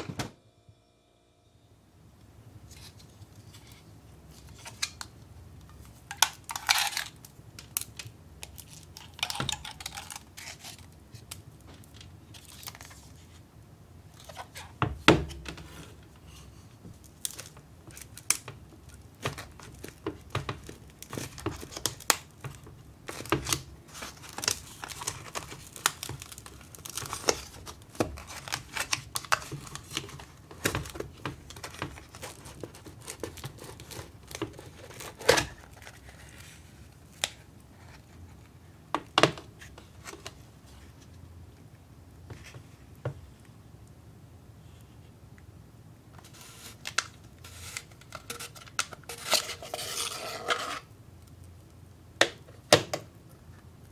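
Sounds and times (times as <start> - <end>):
crackling handling noise: 2.2 - 13.5, 14.1 - 44.0, 46.1 - 53.9.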